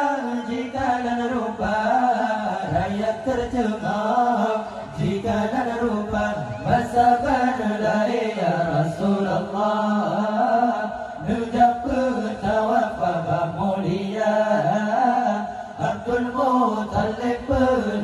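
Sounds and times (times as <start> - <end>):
group chanting in unison: 0.0 - 18.0.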